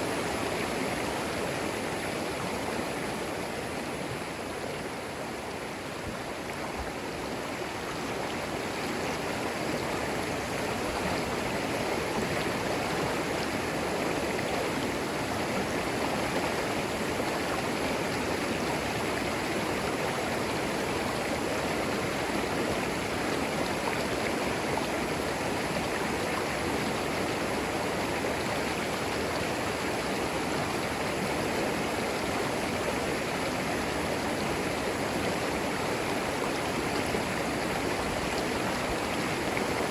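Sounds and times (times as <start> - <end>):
creek water babbling over stones: 0.0 - 39.9.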